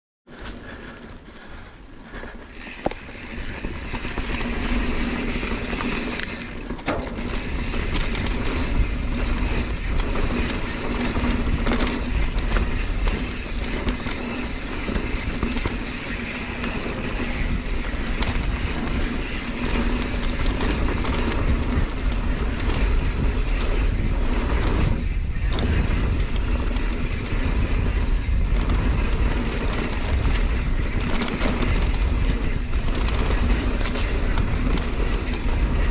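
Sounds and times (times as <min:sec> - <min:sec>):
tyres rolling over dirt trail: 0:00.3 - 0:35.9
wind buffeting microphone: 0:00.6 - 0:35.9
bike knocks and rattles: 0:02.5 - 0:35.9.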